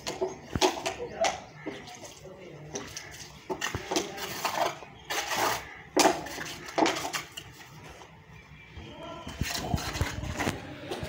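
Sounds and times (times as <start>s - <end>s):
trowel scraping wet cement: 0.0s - 8.0s, 9.3s - 11.0s.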